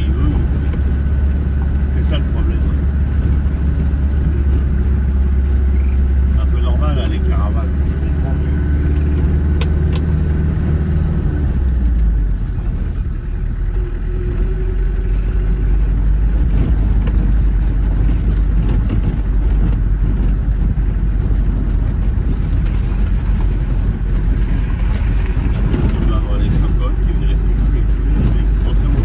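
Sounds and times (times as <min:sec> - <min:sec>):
gravel crunching under wheels: 0:00.0 - 0:29.0
vehicle engine and tyre rumble: 0:00.0 - 0:29.0.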